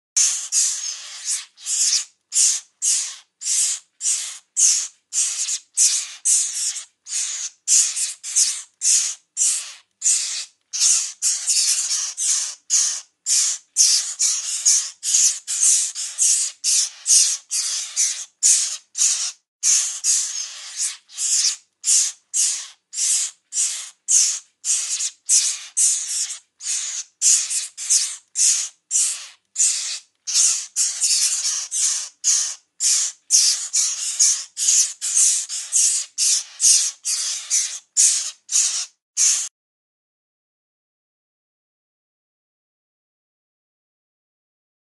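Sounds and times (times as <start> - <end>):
bird chicks raspy calls: 0.2 - 39.5.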